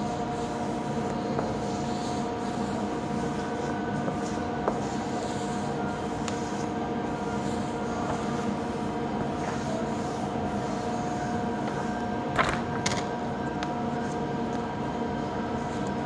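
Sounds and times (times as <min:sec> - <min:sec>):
mechanical hum with held tones: 0:00.0 - 0:16.0.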